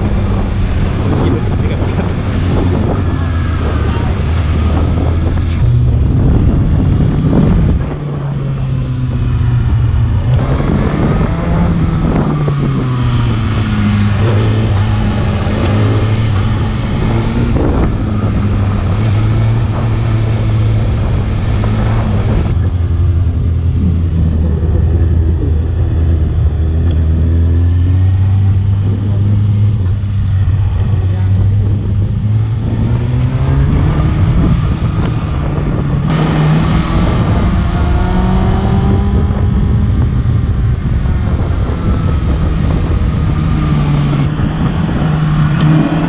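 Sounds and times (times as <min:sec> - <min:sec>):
motorcycle engine running hard: 0:00.0 - 0:46.0.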